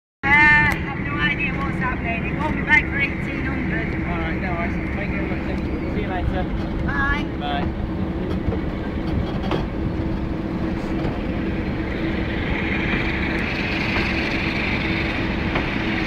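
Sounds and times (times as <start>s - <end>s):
diesel locomotive engine working: 0.2s - 16.0s
high whine: 0.2s - 16.0s
train wheels on rails: 1.3s - 16.0s.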